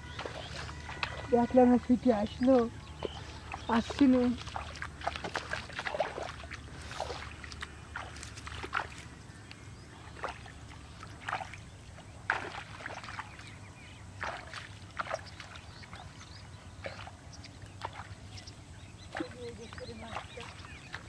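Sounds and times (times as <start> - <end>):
shallow water splashing: 0.0 - 21.0.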